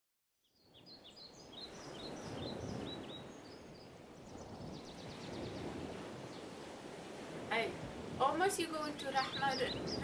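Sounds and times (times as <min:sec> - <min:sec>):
birds chirping: 0:00.4 - 0:06.6, 0:07.5 - 0:10.0.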